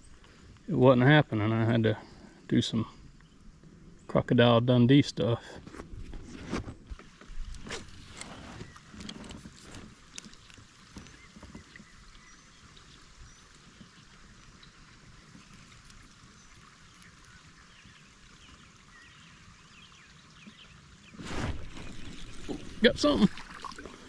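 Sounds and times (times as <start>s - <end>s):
creek background: 0.0s - 24.0s.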